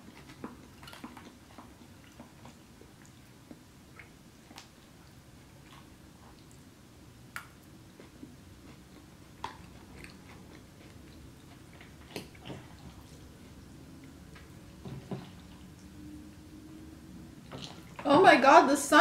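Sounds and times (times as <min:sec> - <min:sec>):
person chewing: 0:00.0 - 0:06.7, 0:07.3 - 0:15.9.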